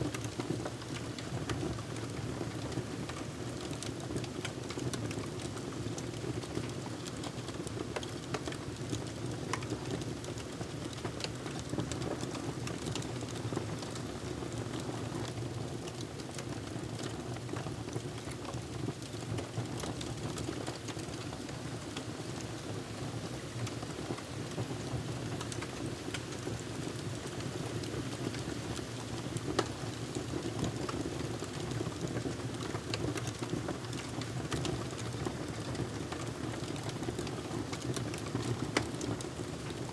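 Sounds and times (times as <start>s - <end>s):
wood fire crackling: 3.1s - 39.7s.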